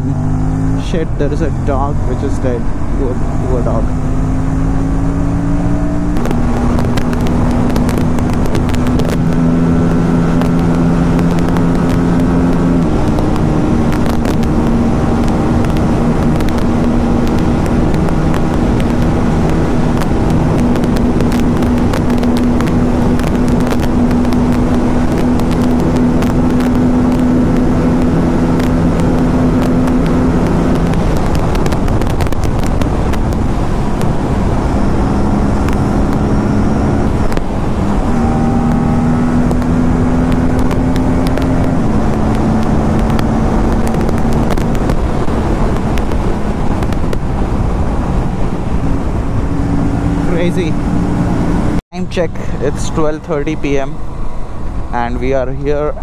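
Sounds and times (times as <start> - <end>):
motorcycle engine cruising: 0.0 - 56.0
wind buffeting microphone: 0.0 - 56.0.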